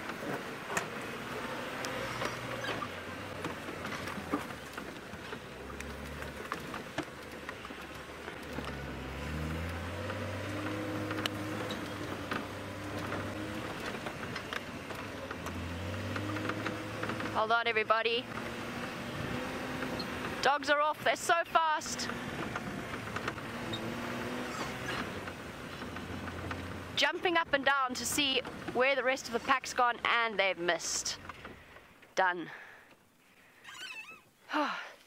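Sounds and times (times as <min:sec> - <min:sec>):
vehicle knocks and rattles: 0:00.0 - 0:20.7, 0:21.9 - 0:32.2
vehicle engine revving: 0:00.0 - 0:30.2.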